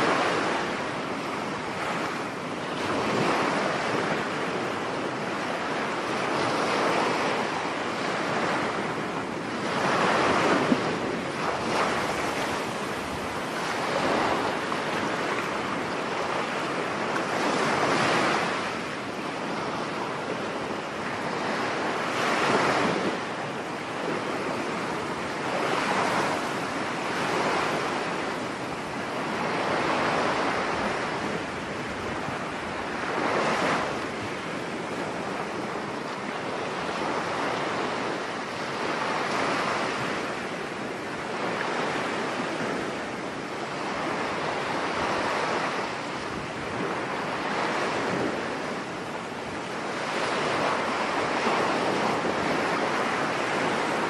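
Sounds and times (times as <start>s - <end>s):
sea waves breaking on beach: 0.0s - 54.0s
wind: 0.0s - 54.0s.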